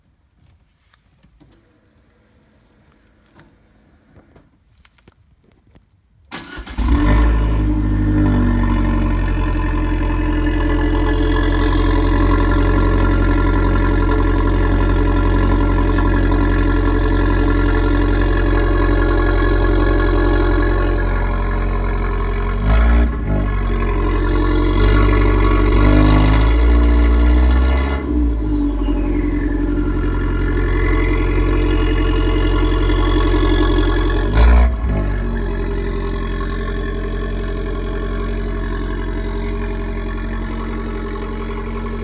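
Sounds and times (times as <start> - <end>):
car engine cranking: 6.3 - 42.0
car engine idling: 6.3 - 42.0.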